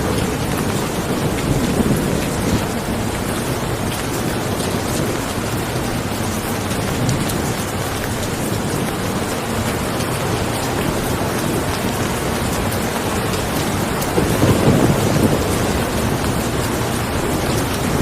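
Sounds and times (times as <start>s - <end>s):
steady rain falling: 0.0s - 18.0s
thunder rumble: 0.0s - 18.0s.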